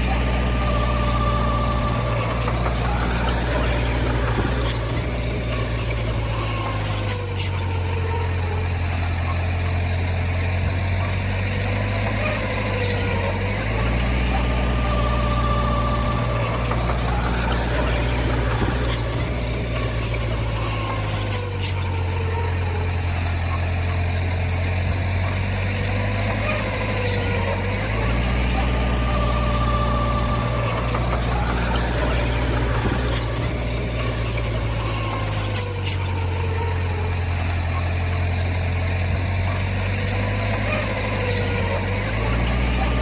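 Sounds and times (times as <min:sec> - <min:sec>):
heavy machinery diesel engine: 0:00.0 - 0:43.0
wavering whine: 0:00.0 - 0:43.0.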